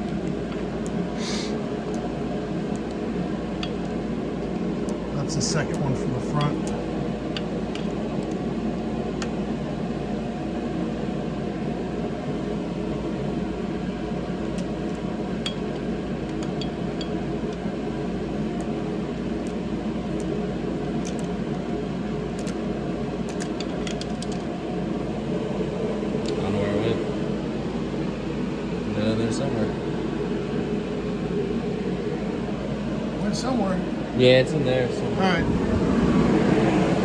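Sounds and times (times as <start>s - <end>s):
fan whirring: 0.0s - 37.0s.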